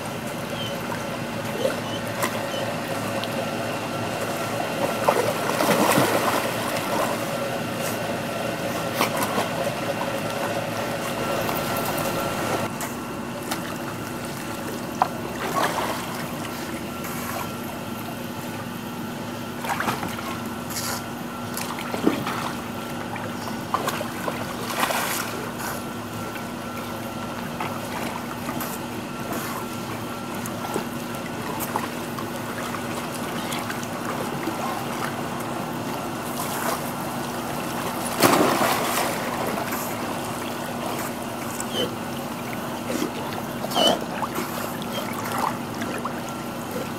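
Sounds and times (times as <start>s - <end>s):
water sloshing and trickling: 0.0s - 12.7s, 13.3s - 46.9s
steady low hum: 0.0s - 46.9s
water splashes: 0.2s - 7.6s, 13.4s - 18.7s, 21.5s - 46.9s.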